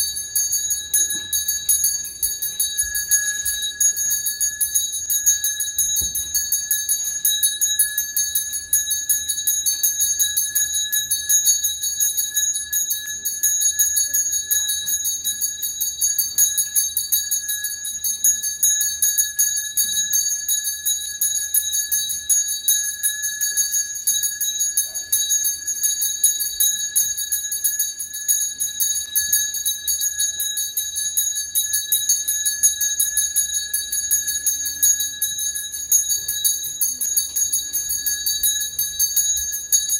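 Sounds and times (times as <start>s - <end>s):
small bell ringing rapidly: 0.0s - 39.9s.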